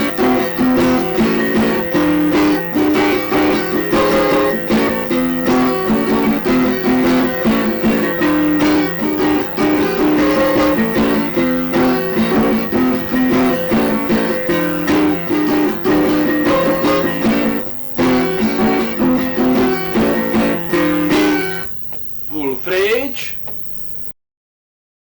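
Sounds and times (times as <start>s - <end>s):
instrumental guitar music: 0.0s - 22.7s.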